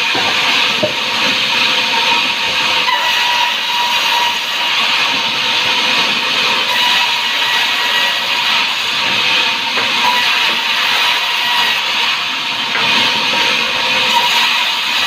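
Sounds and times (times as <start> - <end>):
saw cutting timber: 0.0 - 15.0.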